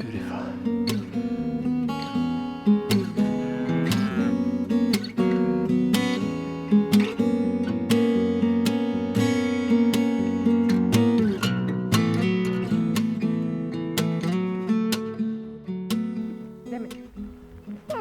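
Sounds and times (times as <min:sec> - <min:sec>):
strummed acoustic guitar chords: 0:00.0 - 0:18.0.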